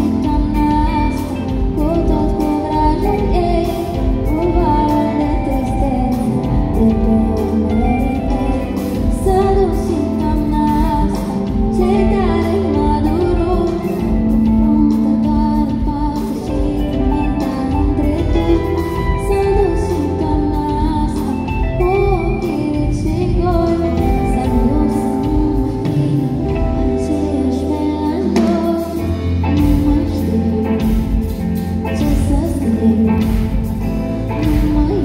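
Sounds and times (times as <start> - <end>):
live pop band playing: 0.0 - 35.0
woman singing: 0.0 - 35.0.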